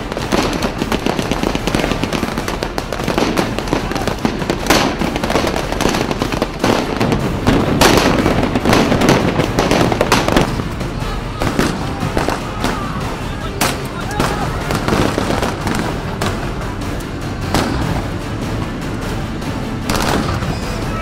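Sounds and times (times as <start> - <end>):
rapid gunfire: 0.0 - 18.1, 19.9 - 20.6.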